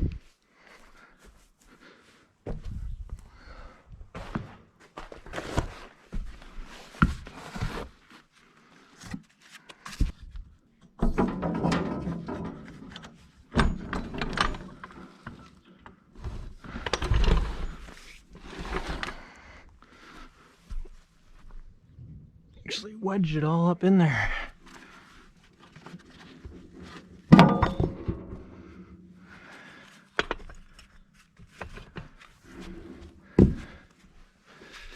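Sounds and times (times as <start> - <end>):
scraping and shuffling: 0.0 - 10.4, 14.8 - 22.4, 24.5 - 34.9.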